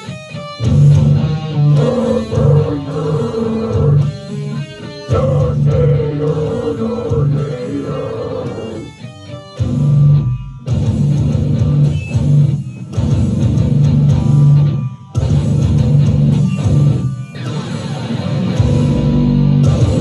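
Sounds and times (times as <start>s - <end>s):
distorted electric guitar riff: 0.0s - 20.0s.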